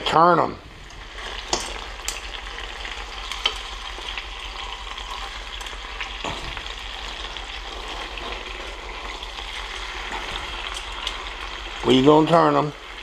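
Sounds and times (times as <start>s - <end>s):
chicken sizzling in a skillet: 0.9s - 13.0s.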